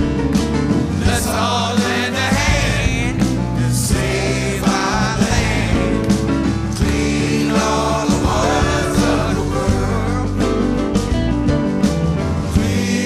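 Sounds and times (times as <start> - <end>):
song with singing: 1.0 - 11.0, 12.5 - 13.0.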